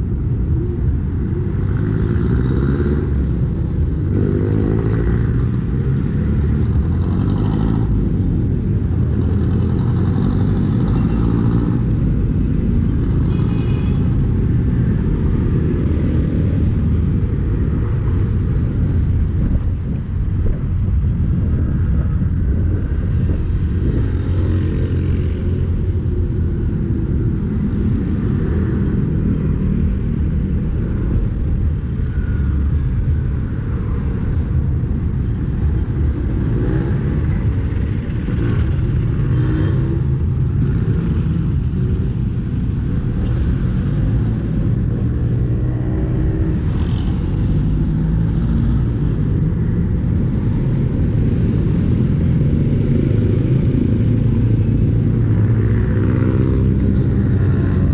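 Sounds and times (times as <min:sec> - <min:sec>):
road traffic rumble: 0:00.0 - 0:57.9.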